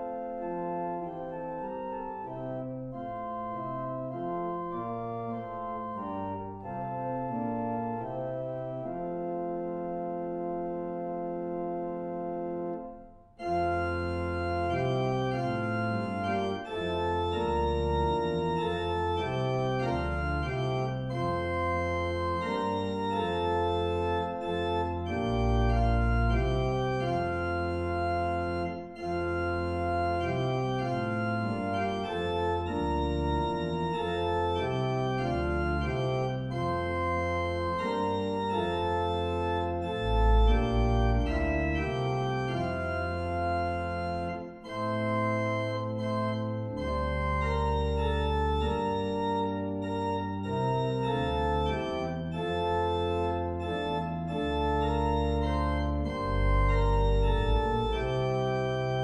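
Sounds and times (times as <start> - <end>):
organ playing hymn chords: 0.0 - 59.0.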